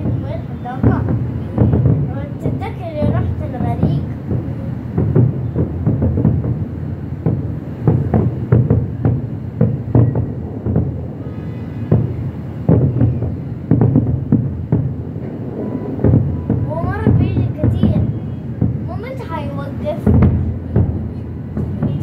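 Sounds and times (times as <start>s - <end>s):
fireworks booms and bangs: 0.0s - 22.0s.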